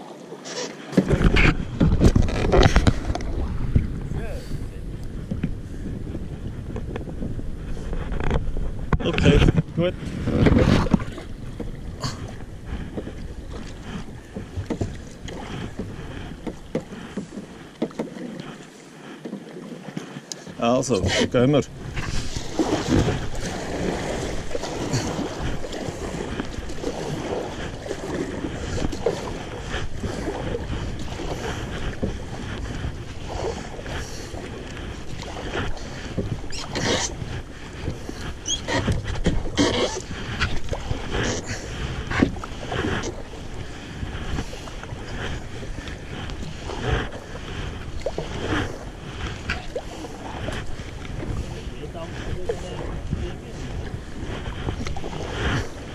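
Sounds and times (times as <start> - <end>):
paddles splashing in water: 0.0 - 55.9
wind rumble on microphone: 0.9 - 17.8, 20.5 - 55.9.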